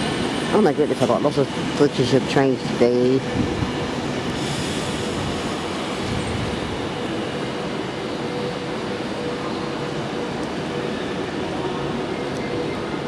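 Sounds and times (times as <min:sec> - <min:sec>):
trains running at station: 0:00.0 - 0:13.0.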